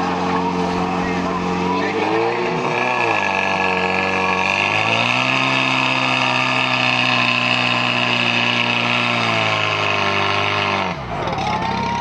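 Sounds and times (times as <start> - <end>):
pump engine running hard: 0.0 - 12.0.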